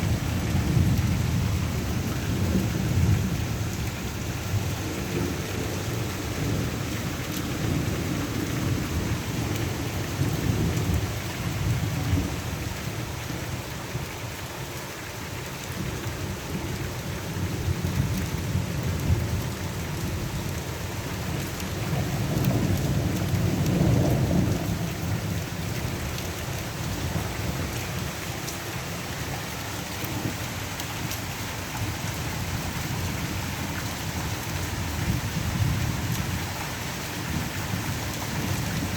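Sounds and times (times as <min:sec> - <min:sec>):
distant rolling thunder: 0:00.0 - 0:14.0, 0:15.7 - 0:38.9
heavy rain: 0:00.0 - 0:38.9.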